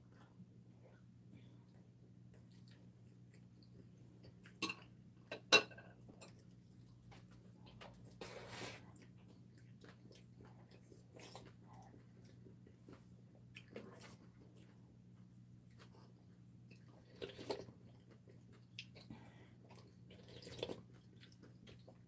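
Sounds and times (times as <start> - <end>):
quiet chewing: 0.0 - 5.0, 6.0 - 22.0
steady low hum: 0.0 - 22.0.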